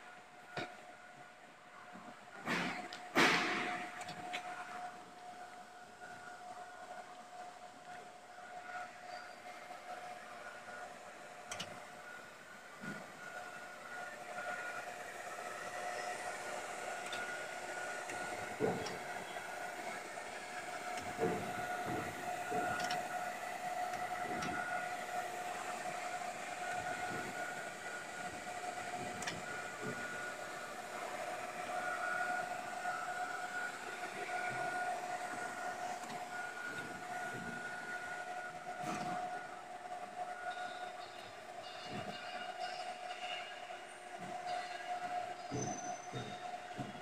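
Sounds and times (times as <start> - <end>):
machine whine with held tone: 0.0 - 47.0
mechanical hum: 0.0 - 47.0.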